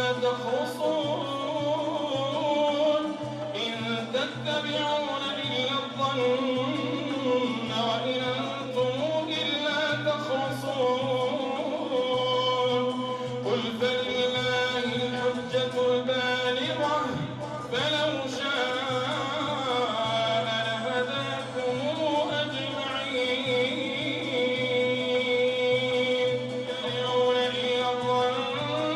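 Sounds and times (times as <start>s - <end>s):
man chanting into a microphone: 0.0s - 28.9s.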